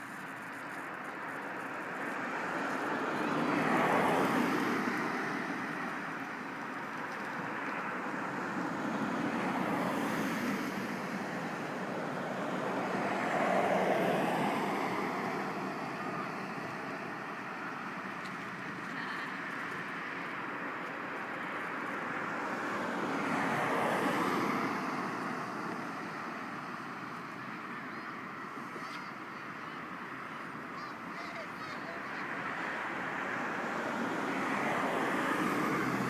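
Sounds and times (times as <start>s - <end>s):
vehicles passing on road: 0.0s - 36.0s.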